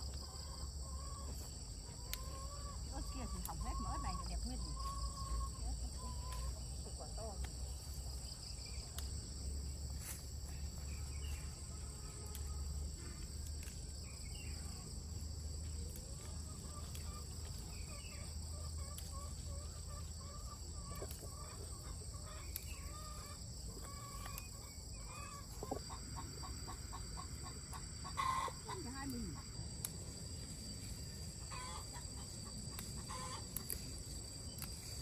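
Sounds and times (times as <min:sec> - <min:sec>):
chickens clucking: 0:00.0 - 0:09.4, 0:14.0 - 0:34.7
high insect drone: 0:00.0 - 0:35.0.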